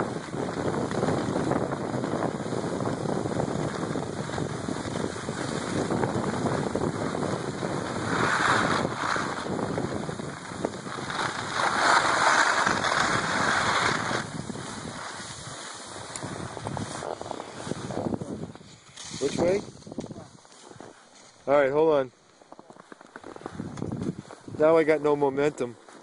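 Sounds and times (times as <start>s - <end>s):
wind buffeting microphone: 0.0s - 21.1s, 23.2s - 25.6s
skis scraping over snow: 0.0s - 26.0s.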